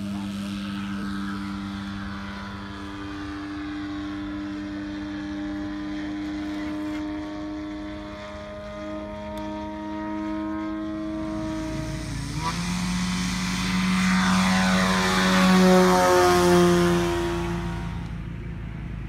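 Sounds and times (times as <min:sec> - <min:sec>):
model plane engine drone: 0:00.0 - 0:19.0.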